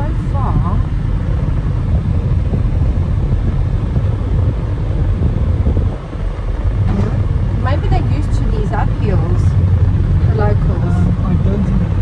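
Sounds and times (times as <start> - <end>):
engine and road noise rumble: 0.0 - 12.0
wind buffeting microphone: 0.0 - 12.0.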